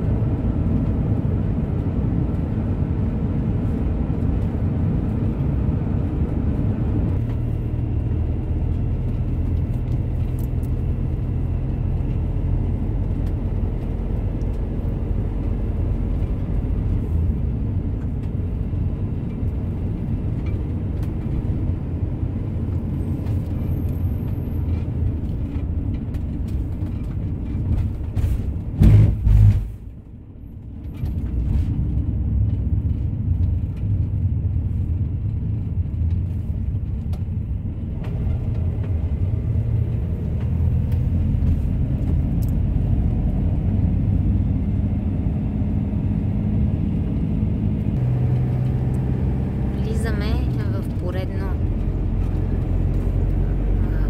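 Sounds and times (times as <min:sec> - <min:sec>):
van engine and tyres rumbling: 0:00.0 - 0:54.0.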